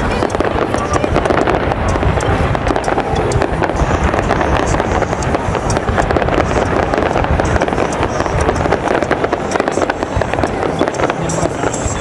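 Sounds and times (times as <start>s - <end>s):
sharp crackling pops: 0.0s - 12.0s.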